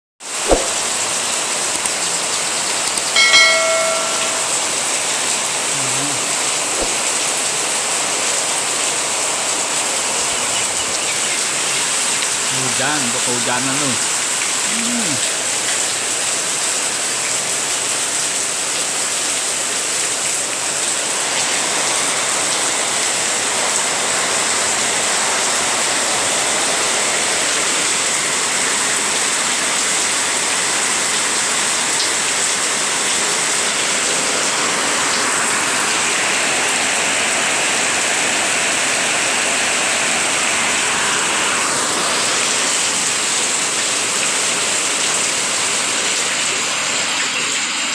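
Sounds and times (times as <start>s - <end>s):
heavy rain falling: 0.3s - 47.9s.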